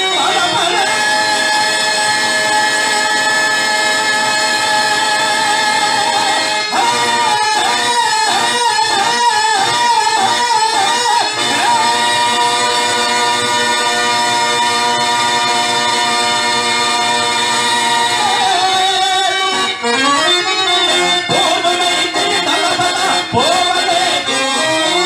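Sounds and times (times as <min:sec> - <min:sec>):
harmonium: 0:00.0 - 0:25.0
man singing: 0:00.0 - 0:25.0.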